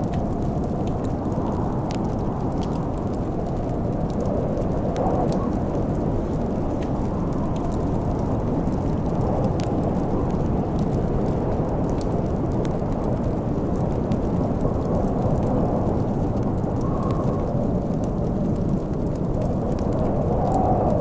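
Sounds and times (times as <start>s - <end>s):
storm wind rumbling: 0.0s - 21.0s
wood fire crackling and popping: 0.0s - 21.0s.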